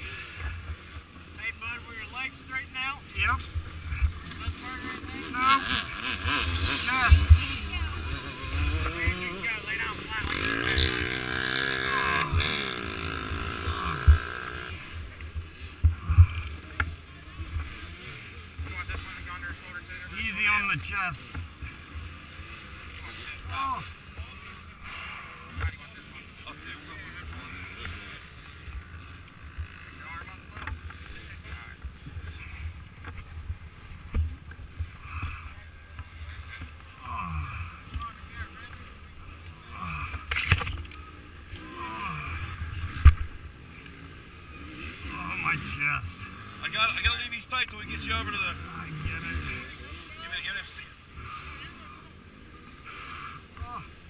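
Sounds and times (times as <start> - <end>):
motorcycle engine passing: 0.0 - 54.0.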